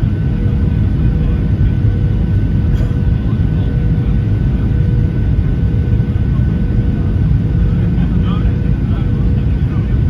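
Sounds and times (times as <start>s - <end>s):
jet engine and airflow rumble: 0.0s - 10.0s.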